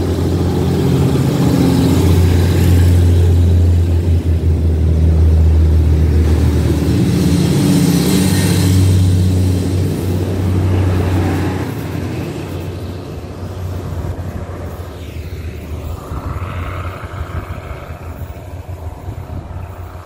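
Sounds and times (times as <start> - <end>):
diesel engines droning: 0.0 - 20.0
train cars rushing past: 0.0 - 20.0.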